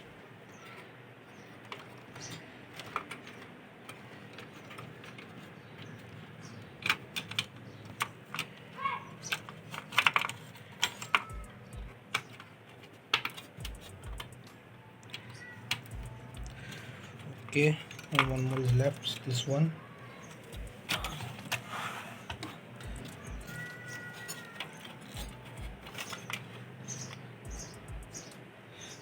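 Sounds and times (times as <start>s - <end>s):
wire connectors clicking into boards: 0.0s - 29.0s.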